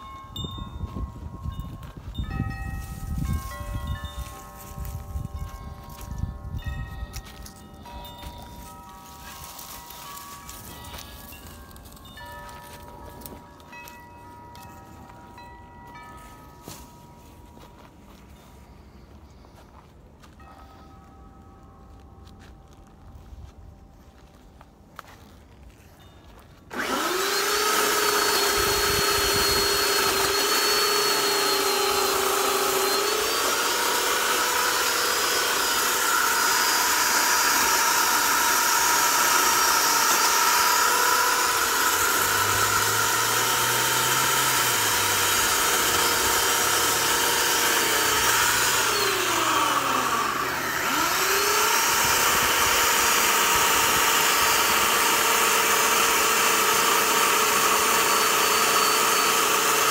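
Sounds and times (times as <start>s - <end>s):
electric chainsaw whine: 0.0s - 19.5s, 26.0s - 59.9s.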